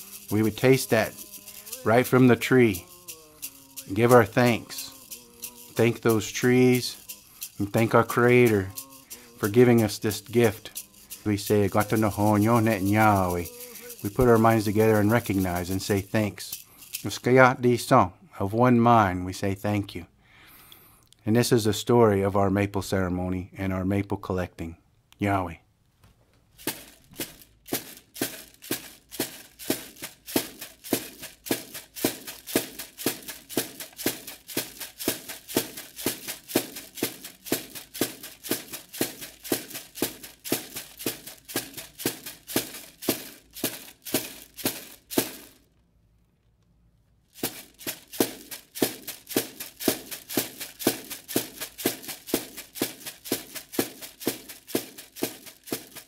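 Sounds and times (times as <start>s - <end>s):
rattle shaken: 0.0s - 17.9s, 26.5s - 45.8s, 47.3s - 56.0s.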